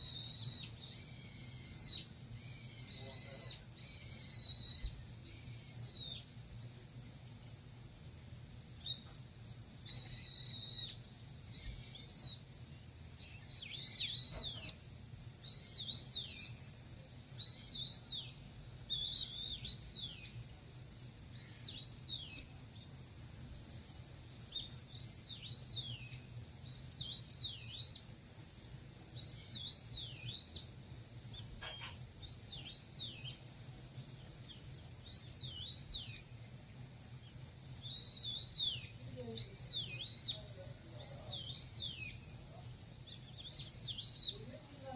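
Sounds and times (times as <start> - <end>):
bird chirping: 0.0 - 6.4, 9.8 - 12.5, 13.1 - 20.4, 21.3 - 22.5, 24.4 - 28.2, 29.1 - 44.9
high-pitched insect drone: 0.0 - 44.9.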